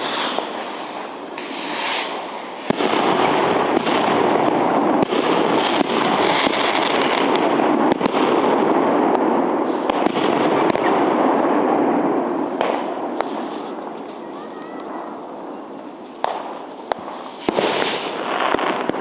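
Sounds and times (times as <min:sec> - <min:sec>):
fireworks bangs: 0:00.0 - 0:19.0
fireworks hissing: 0:00.0 - 0:19.0.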